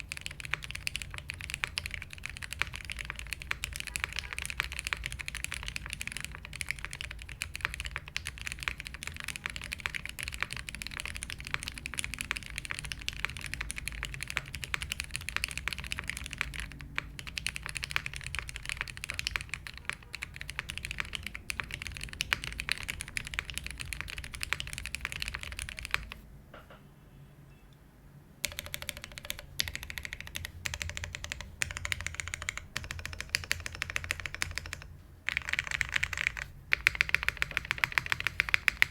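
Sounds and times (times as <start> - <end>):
mechanical keyboard typing: 0.0 - 26.2, 28.4 - 38.9.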